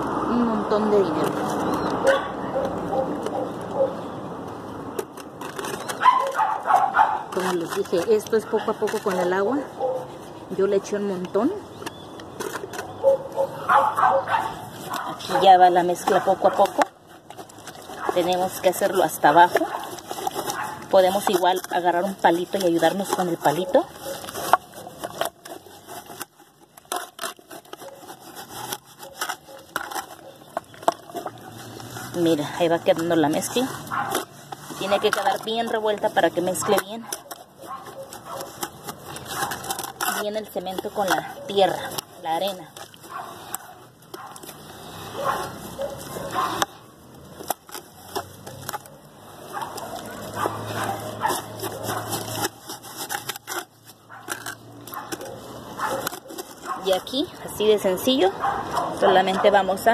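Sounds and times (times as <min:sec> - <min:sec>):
trowel scraping wet mortar: 0:04.8 - 0:59.9.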